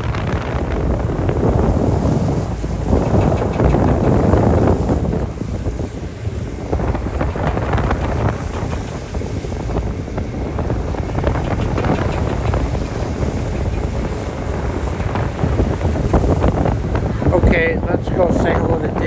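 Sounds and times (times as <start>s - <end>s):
low ship rumble: 0.0s - 19.0s
rough sea: 0.0s - 19.0s
wind buffeting microphone: 0.0s - 19.0s.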